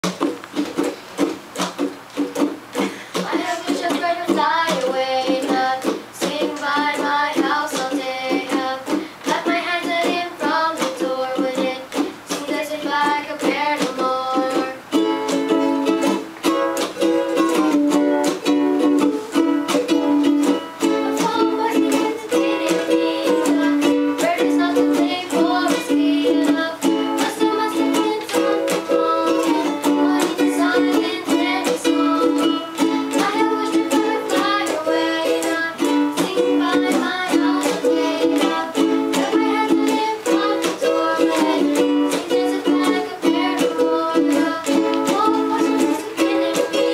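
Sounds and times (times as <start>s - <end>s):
ukuleles strummed: 0.0s - 46.9s
young voices singing: 1.6s - 46.9s.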